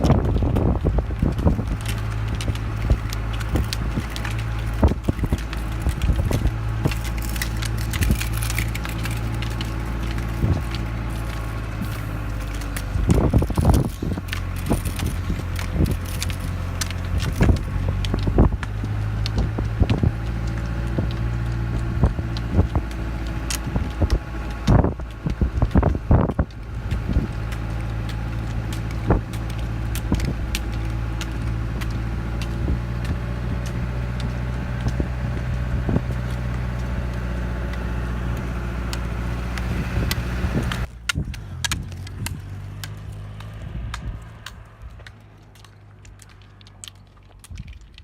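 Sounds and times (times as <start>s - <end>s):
sharp clicks and knocks: 0.0s - 48.0s
vehicle engine running: 0.0s - 48.0s.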